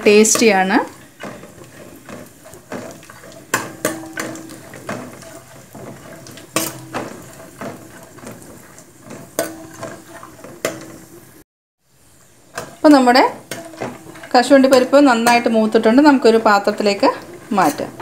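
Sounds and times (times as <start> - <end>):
metal spoon scraping steel pan: 0.0 - 11.0, 12.6 - 18.0
faint sizzle: 0.0 - 18.0.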